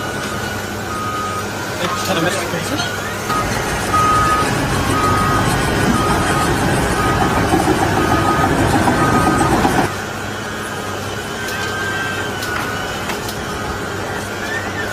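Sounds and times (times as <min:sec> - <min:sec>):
heavy machine running loudly: 0:00.0 - 0:14.9
reversing alarm beeping: 0:00.0 - 0:14.9.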